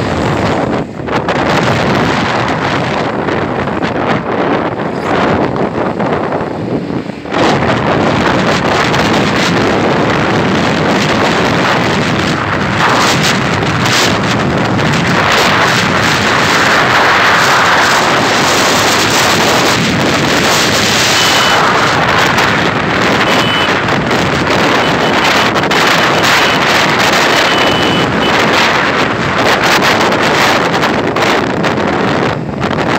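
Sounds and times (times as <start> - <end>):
vehicle and road noise: 0.0 - 32.9
wind buffeting microphone: 0.0 - 32.9.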